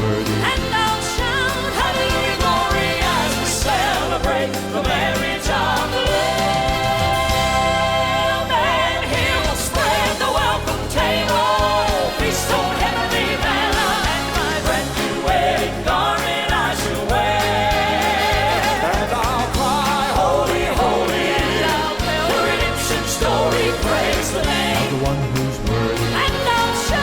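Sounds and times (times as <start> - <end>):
full band with steady bass: 0.0 - 27.0
voices singing with vibrato: 0.0 - 27.0.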